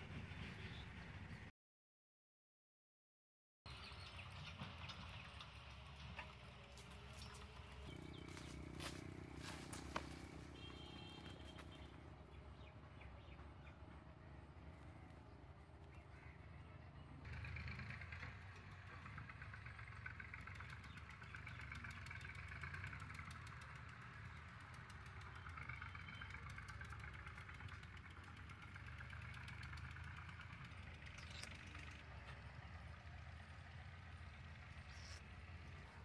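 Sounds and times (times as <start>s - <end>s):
faint distant engine hum: 0.0s - 1.5s, 3.7s - 36.0s.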